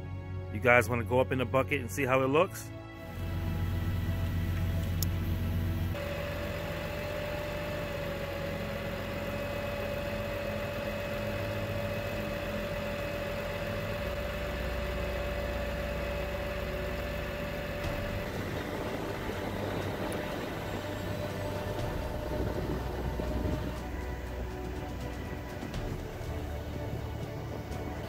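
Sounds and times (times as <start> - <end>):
hydraulic boom whine: 3.0 - 28.0
truck engine running: 3.0 - 28.0.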